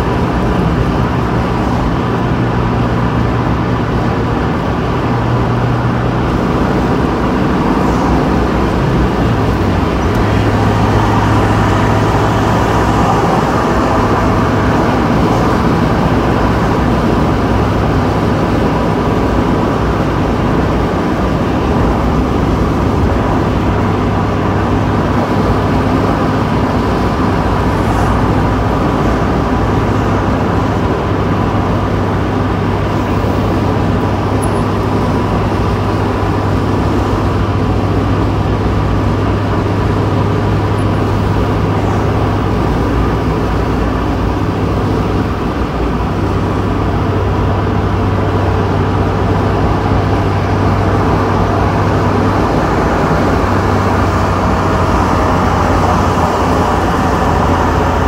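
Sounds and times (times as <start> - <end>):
low engine drone: 0.0 - 58.0
wind rush and road noise: 0.0 - 58.0.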